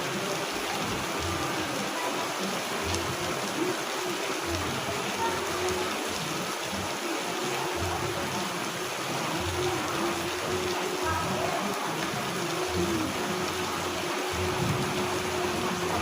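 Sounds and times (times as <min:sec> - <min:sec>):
soft music: 0:00.0 - 0:16.0
steady rain falling: 0:00.0 - 0:16.0.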